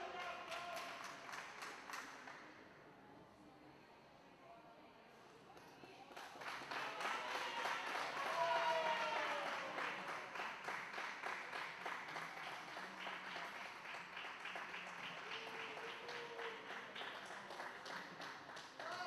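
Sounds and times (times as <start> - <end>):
applause echoing in a hall: 0.0 - 2.8, 5.6 - 19.0.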